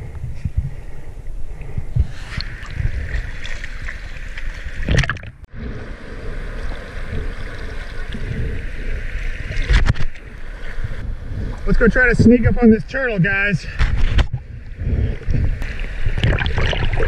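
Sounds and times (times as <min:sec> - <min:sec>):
water splashing and lapping: 0:01.6 - 0:12.4, 0:13.8 - 0:17.0.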